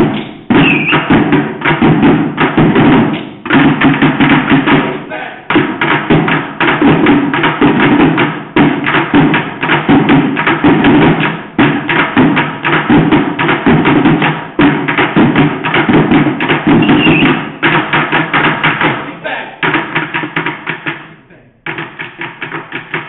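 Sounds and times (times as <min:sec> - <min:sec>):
drumming on buckets with sticks: 0:00.0 - 0:23.0.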